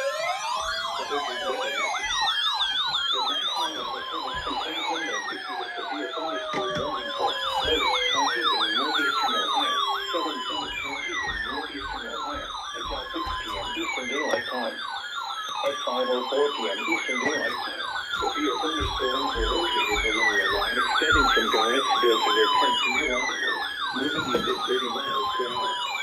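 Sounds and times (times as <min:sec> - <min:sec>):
siren high warble: 0:00.0 - 0:26.0
siren wailing: 0:00.0 - 0:26.0
siren yelping: 0:00.0 - 0:26.0.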